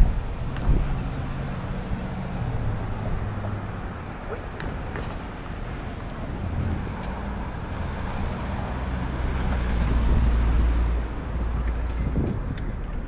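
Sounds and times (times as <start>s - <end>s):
city traffic: 0.0s - 13.0s.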